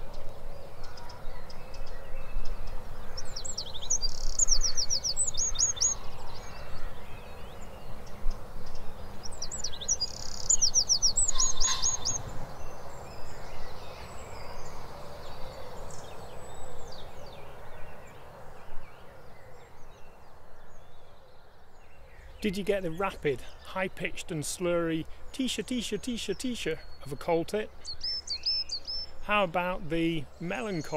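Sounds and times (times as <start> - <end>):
outdoor background hiss: 0.0 - 30.9
songbird singing: 0.0 - 30.9.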